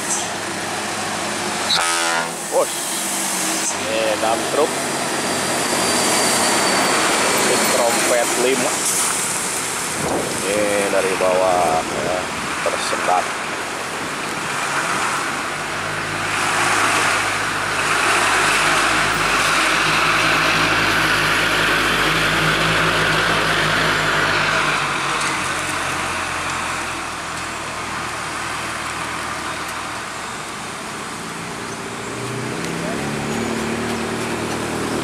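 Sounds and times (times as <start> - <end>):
cars and trucks passing: 0.0 - 35.0
tyre and road noise: 0.0 - 35.0.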